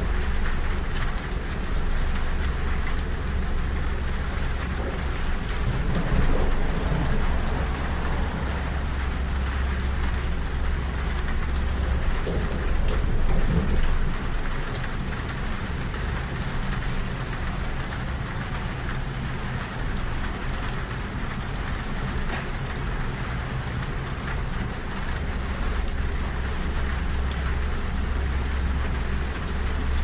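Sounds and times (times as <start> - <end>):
moving train rumble: 0.0 - 30.0
rain ticking on train window: 0.0 - 30.0.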